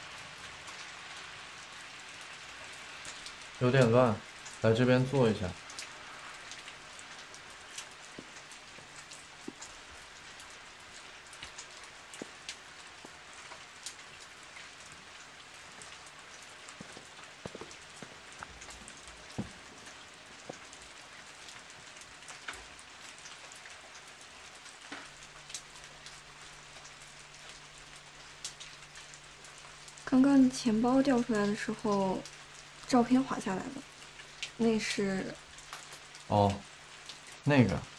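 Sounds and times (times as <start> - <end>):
raindrops ticking: 0.0 - 37.9
steady rain hissing: 0.0 - 37.9.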